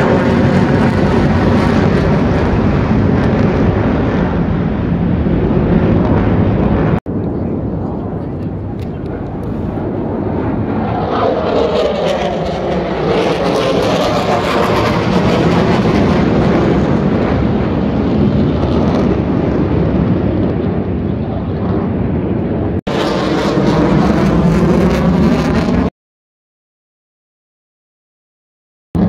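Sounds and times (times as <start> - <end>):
fighter jet roar: 0.0 - 25.9.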